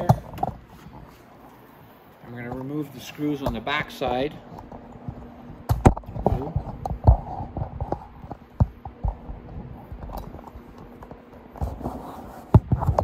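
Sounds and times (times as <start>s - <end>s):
hands and tools on plastic fairing: 0.0s - 13.0s.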